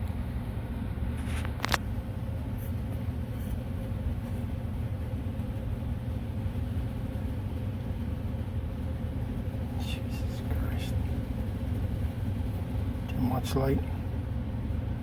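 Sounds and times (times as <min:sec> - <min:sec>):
ceiling fan rumbling: 0:00.0 - 0:15.0.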